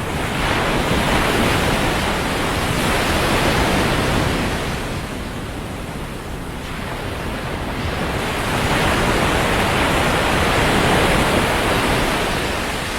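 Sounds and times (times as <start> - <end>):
waves washing on a beach: 0.0 - 12.9
wind rumbling on microphone: 0.0 - 12.9.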